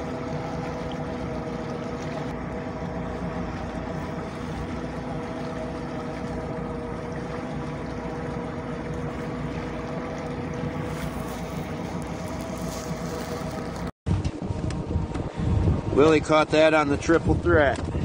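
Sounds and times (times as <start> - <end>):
outboard motor droning: 0.0 - 18.0
water washing past hull: 0.0 - 18.0.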